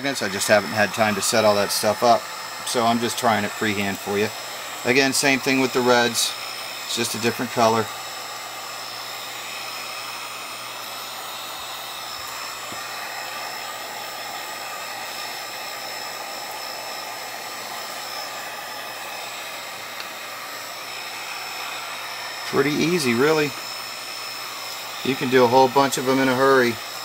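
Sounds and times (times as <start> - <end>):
heat gun blowing hot air: 0.0 - 27.0.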